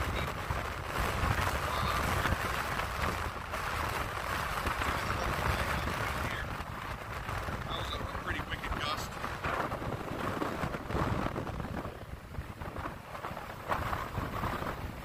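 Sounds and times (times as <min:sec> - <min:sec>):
storm wind buffeting microphone: 0:00.0 - 0:15.0
surf breaking on beach: 0:00.0 - 0:15.0.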